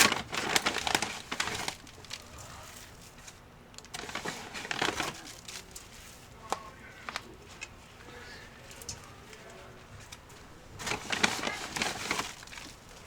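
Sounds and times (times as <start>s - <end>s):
hands rustling dry material: 0.0s - 13.0s.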